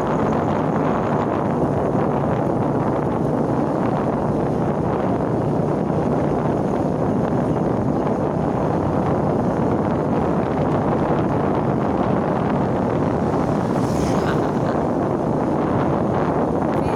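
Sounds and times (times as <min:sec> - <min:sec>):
wind rushing over microphone: 0:00.0 - 0:16.9.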